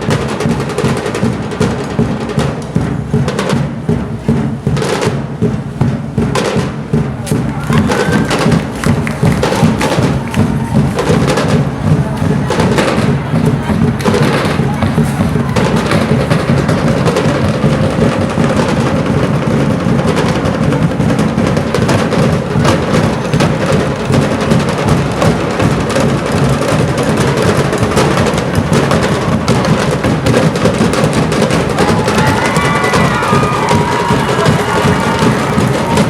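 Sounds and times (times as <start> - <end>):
drums and wood-block beats: 0.0 - 36.0.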